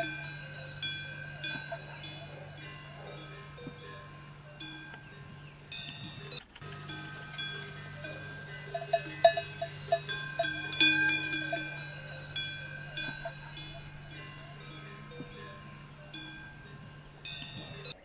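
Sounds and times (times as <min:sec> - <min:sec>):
livestock bells clanking: 0:00.0 - 0:18.0
low steady hum: 0:00.0 - 0:18.0.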